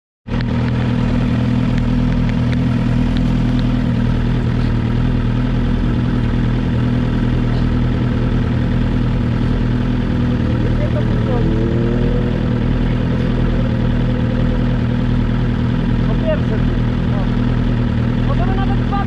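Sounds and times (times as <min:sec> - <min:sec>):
motorcycle engine idling: 0:00.3 - 0:19.0.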